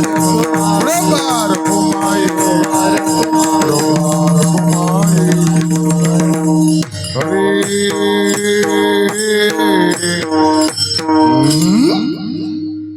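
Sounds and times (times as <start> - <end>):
drum and hand percussion beat: 0.0 - 12.0.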